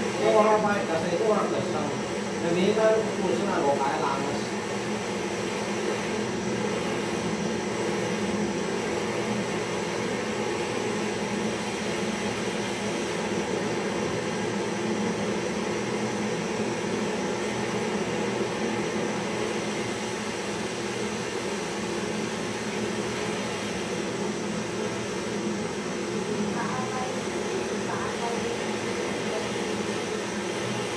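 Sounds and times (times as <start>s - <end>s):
gas torch flame hissing: 0.0s - 30.9s.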